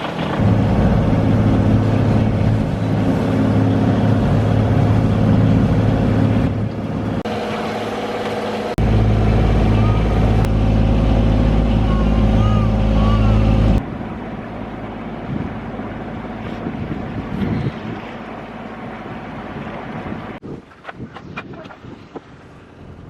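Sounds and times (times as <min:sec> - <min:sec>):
boat engine droning: 0:00.0 - 0:20.4, 0:21.7 - 0:23.0.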